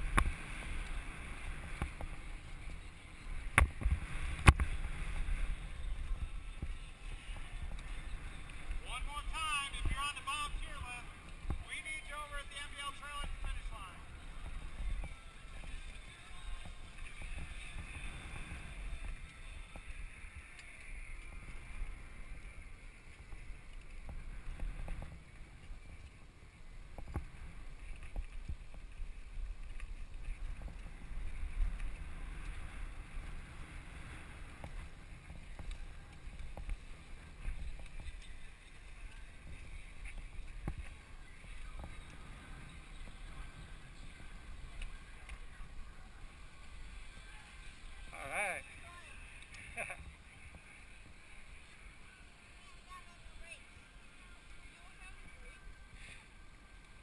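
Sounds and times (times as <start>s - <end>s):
wind buffeting microphone: 0.0s - 48.1s.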